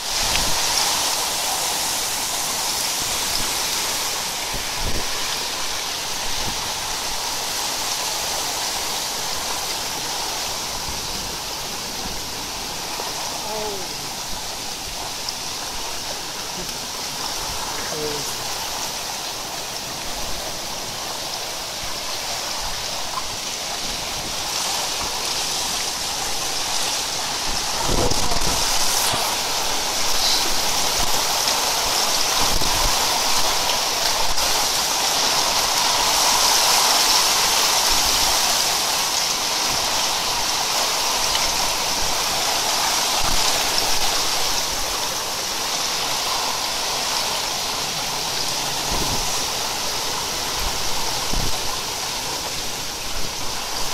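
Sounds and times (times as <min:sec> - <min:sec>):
heavy rain roaring: 0:00.0 - 0:53.9
water rushing and pouring: 0:00.0 - 0:53.9.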